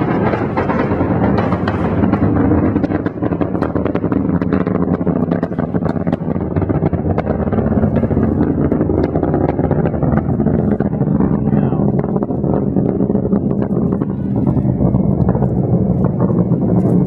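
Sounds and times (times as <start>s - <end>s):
rocket engines rumbling and crackling: 0.0s - 17.0s.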